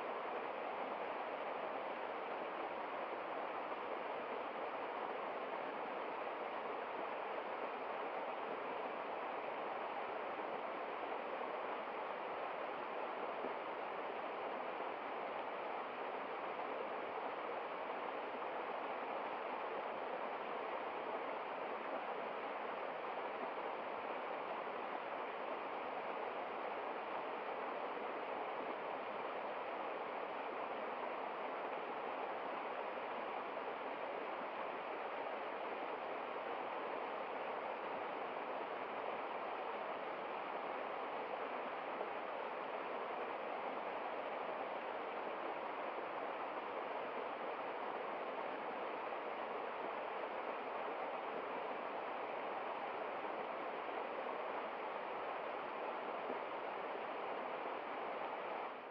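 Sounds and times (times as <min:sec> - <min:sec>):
small waterfall rushing: 0:00.0 - 0:58.9.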